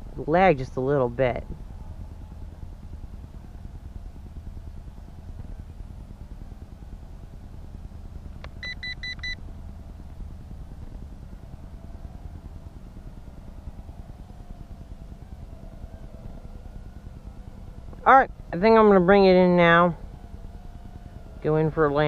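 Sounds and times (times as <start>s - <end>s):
faint wavering whine: 0.0s - 22.0s
steady low rumble: 0.0s - 22.0s.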